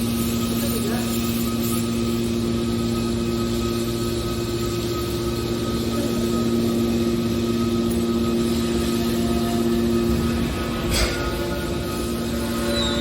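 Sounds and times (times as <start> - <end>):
baler machine humming: 0.1 - 13.0.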